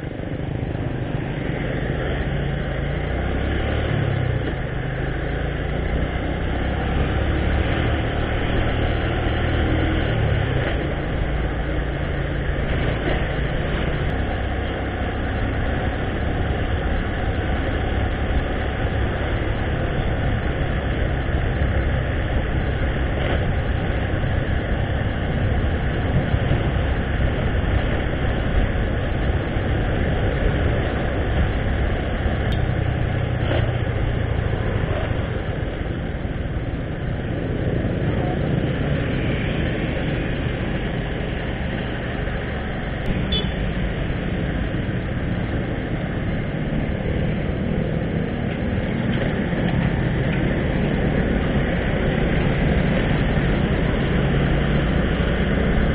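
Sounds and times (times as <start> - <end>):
motorcycle engine running: 0.0 - 55.9
wind rushing over microphone: 0.0 - 55.9.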